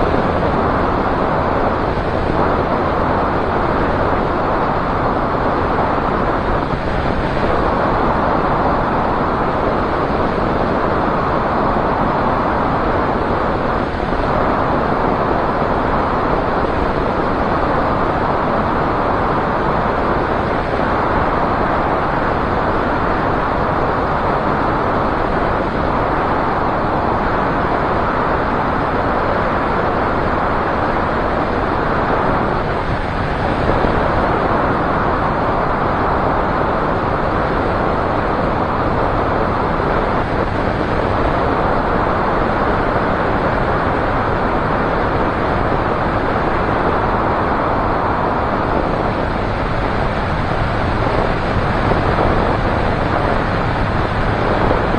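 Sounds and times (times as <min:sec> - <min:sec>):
propeller engine running: 0:00.0 - 0:54.9
wind rush over microphone: 0:00.0 - 0:54.9.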